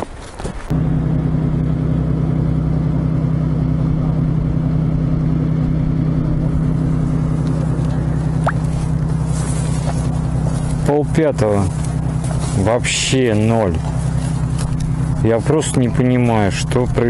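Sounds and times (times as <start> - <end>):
engine droning steadily: 0.0 - 17.0.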